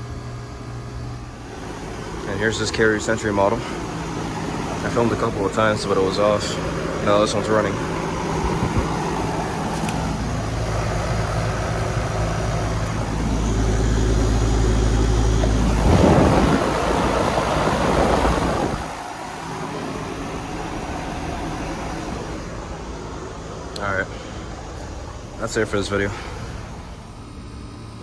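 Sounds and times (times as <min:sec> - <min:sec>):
air conditioner humming: 0:00.0 - 0:28.0
heavy rumble and rushing: 0:01.3 - 0:27.7.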